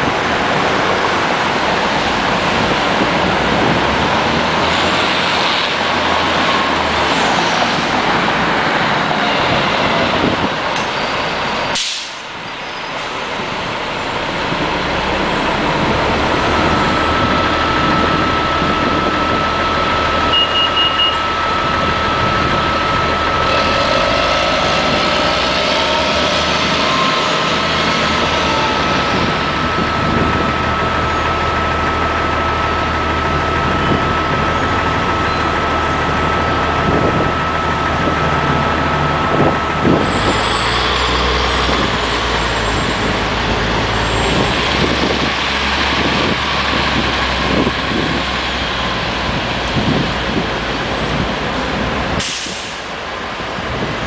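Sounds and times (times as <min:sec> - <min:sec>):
bus engine pulling away: 0:00.0 - 0:54.0
bus passing: 0:00.0 - 0:54.0
high whine: 0:00.0 - 0:54.0.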